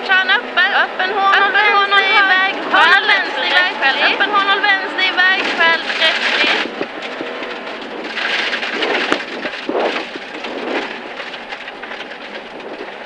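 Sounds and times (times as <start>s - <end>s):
gravel and road noise: 0.0s - 13.0s.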